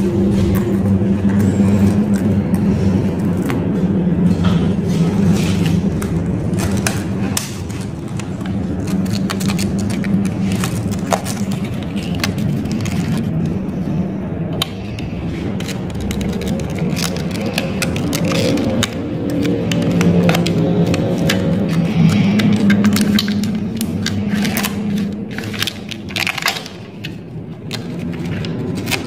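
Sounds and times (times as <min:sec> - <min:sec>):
steady low hum: 0:00.0 - 0:29.0
winding wire rustling and scraping: 0:00.0 - 0:29.0.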